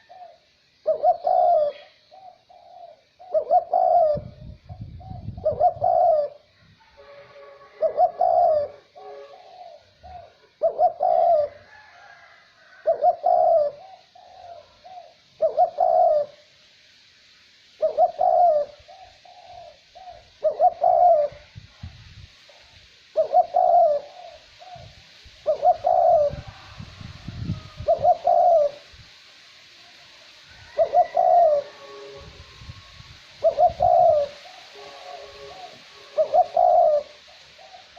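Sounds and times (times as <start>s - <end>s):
dove cooing: 0.0s - 16.5s, 17.8s - 21.6s, 23.1s - 28.9s, 30.6s - 37.9s
light wind hiss: 0.0s - 37.9s.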